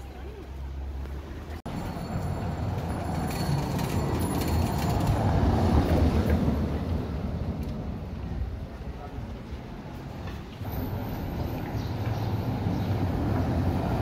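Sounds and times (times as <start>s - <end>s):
car tyres rumbling on cobblestones: 0.0s - 14.0s.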